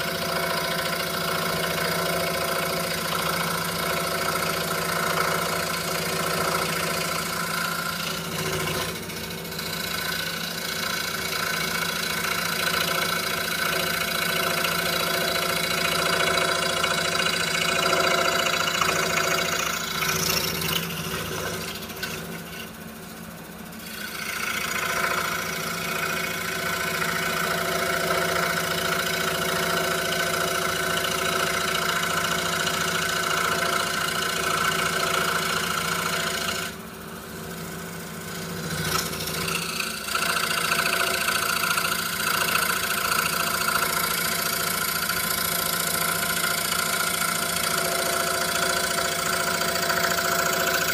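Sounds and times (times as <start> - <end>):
scroll saw cutting plywood: 0.0 - 22.8, 23.7 - 36.8, 37.4 - 50.9.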